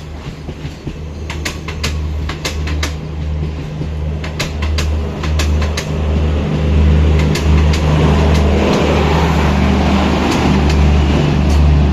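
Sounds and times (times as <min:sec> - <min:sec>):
train running noise: 0:00.0 - 0:11.9
wheels clicking over rail joints: 0:00.0 - 0:11.9.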